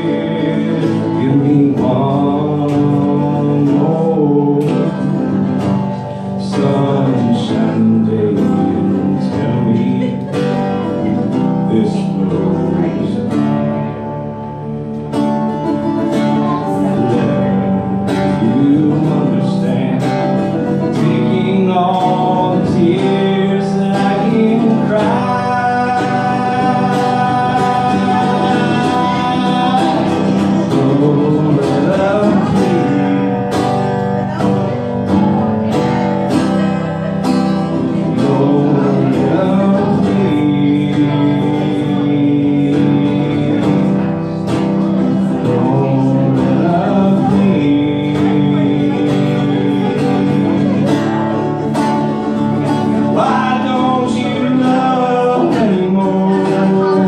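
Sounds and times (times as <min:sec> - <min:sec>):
acoustic guitar strummed and picked: 0:00.0 - 0:57.0
man singing: 0:00.0 - 0:57.0.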